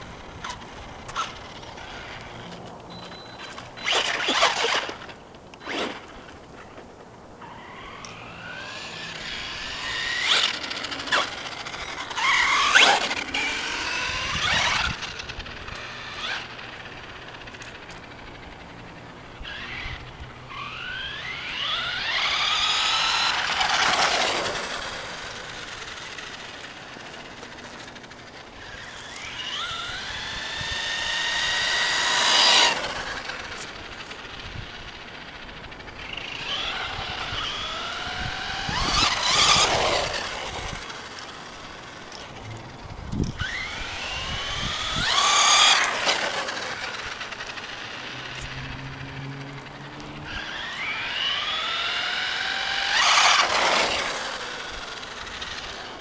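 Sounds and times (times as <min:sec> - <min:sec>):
rc truck electric motor whining: 0:00.0 - 0:56.0.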